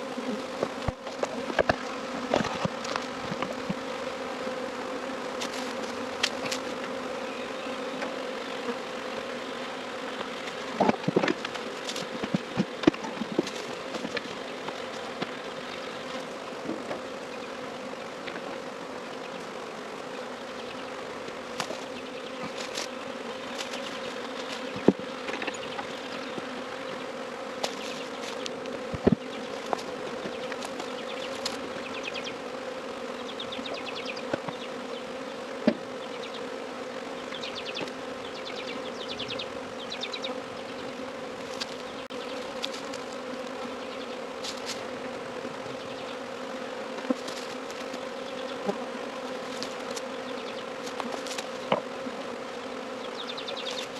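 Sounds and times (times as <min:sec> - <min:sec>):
bee swarm buzzing: 0:00.0 - 0:53.9.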